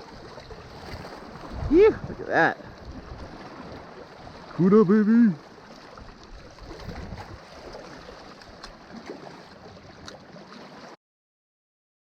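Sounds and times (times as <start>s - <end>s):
seawater washing against rocks: 0.0s - 11.0s.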